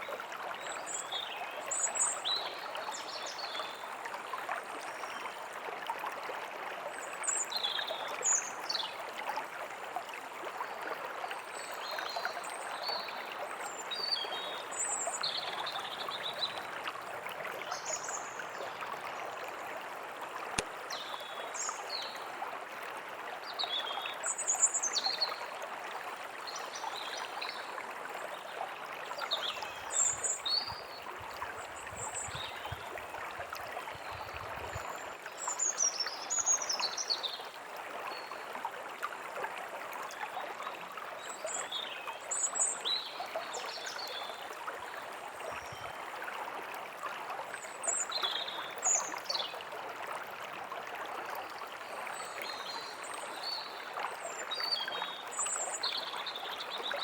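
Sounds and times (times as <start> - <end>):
forest stream running: 0.0 - 57.0.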